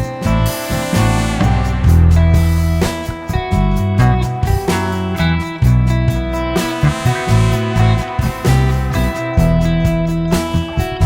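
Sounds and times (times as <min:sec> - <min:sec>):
bass line: 0:00.0 - 0:11.0
guitar instrumental music: 0:00.0 - 0:11.0.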